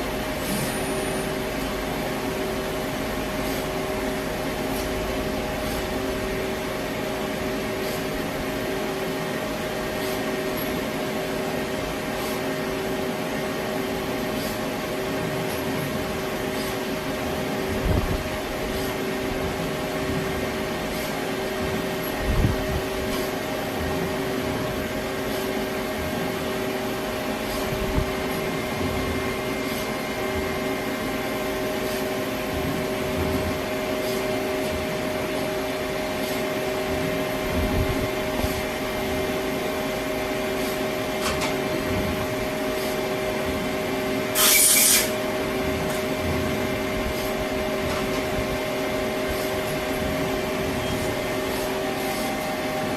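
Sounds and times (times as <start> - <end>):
lathe machine hum: 8.4 - 44.4, 45.1 - 52.9.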